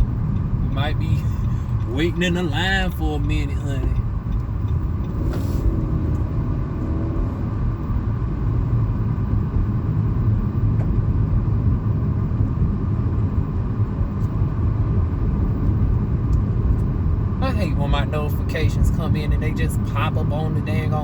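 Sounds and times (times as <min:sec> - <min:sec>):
car engine rumble: 0:00.0 - 0:21.0
road noise inside car: 0:00.0 - 0:21.0.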